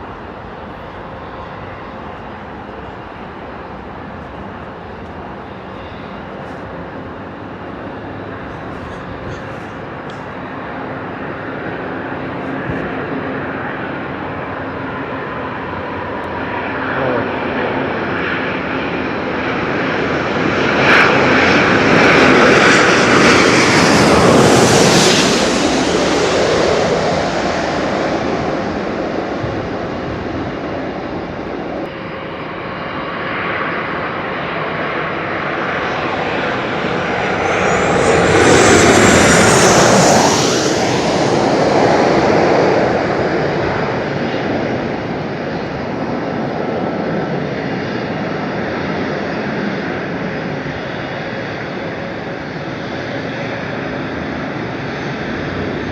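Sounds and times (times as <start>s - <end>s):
jet whine falling in pitch: 0.0s - 52.4s
aircraft engines passing: 0.0s - 55.9s.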